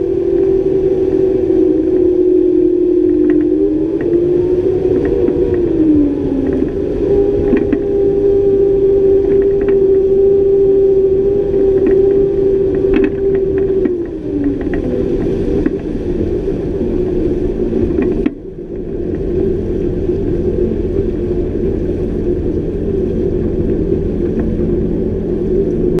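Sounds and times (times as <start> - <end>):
hull wash: 0.0 - 26.0
outboard motors running: 0.0 - 26.0
wind: 0.0 - 26.0.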